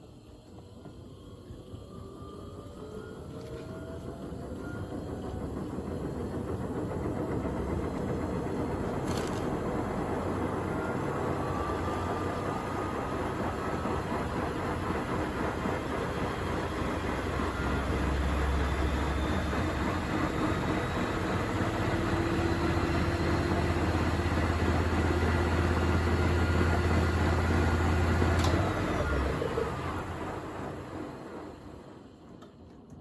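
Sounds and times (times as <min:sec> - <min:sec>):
washing machine spinning: 0:00.0 - 0:33.0.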